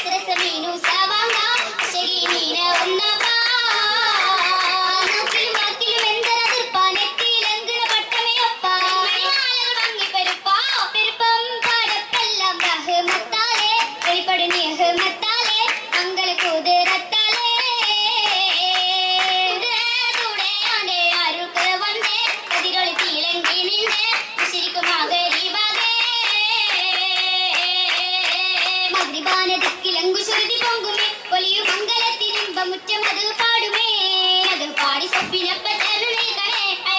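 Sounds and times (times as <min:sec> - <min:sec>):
hand-clapping in time: 0:00.0 - 0:36.9
women singing: 0:00.0 - 0:36.9.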